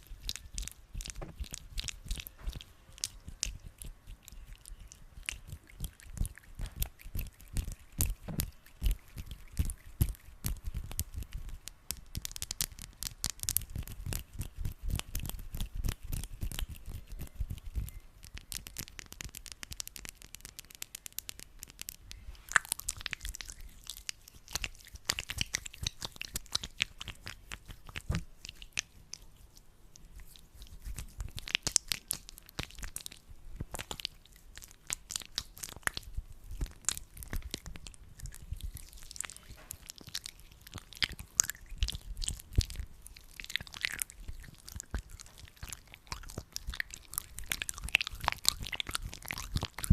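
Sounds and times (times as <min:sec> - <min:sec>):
hands rubbing sticky gel: 0:00.0 - 0:49.9.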